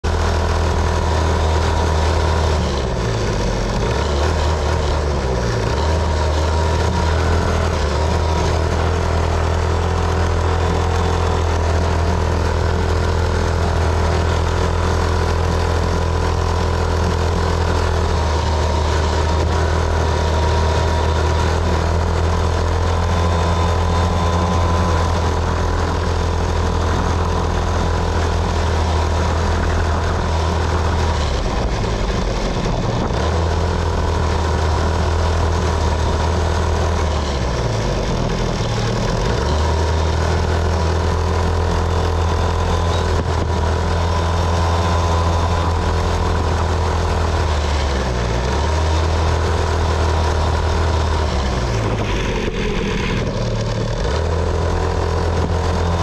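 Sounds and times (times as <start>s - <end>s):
small motorcycle engine running: 0.0s - 56.0s
wind and road noise: 0.0s - 56.0s.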